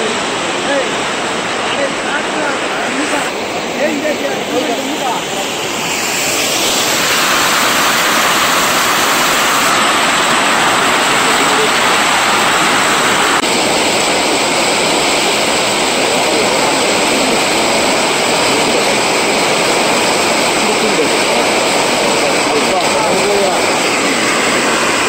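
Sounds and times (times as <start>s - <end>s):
water gushing and churning: 0.0s - 25.0s.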